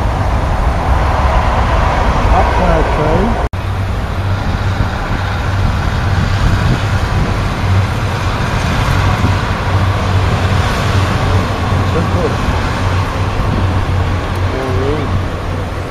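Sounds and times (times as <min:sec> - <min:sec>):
diesel train engine drone: 0:00.0 - 0:15.9.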